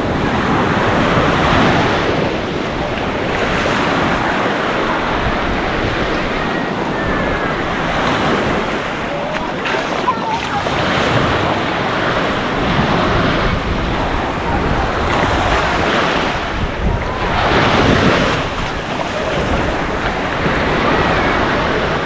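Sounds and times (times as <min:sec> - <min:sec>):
small waves breaking on sand: 0:00.0 - 0:22.0
wind buffeting microphone: 0:00.0 - 0:22.0.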